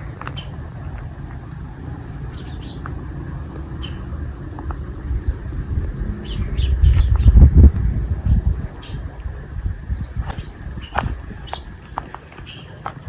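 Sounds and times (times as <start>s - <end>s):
low rumble: 0.0s - 11.9s
small birds chirping: 0.0s - 13.0s.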